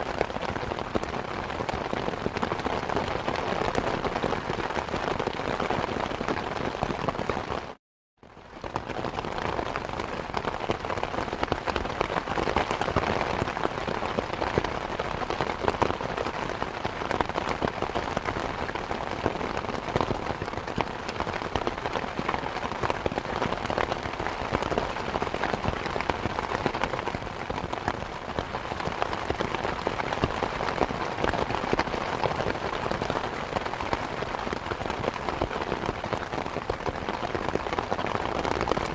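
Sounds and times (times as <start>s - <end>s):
heavy rain falling: 0.0s - 7.8s, 8.5s - 38.9s.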